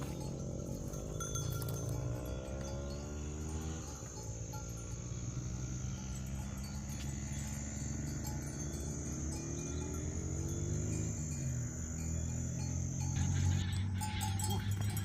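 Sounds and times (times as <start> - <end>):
crickets trilling: 0.0 - 15.0
low steady rumble: 0.0 - 15.0.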